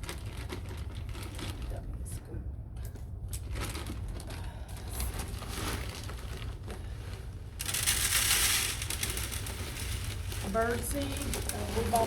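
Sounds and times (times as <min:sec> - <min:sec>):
plastic bag crinkling: 0:00.0 - 0:01.8, 0:03.4 - 0:12.0
plastic bag rustling: 0:00.0 - 0:01.9, 0:03.4 - 0:12.0.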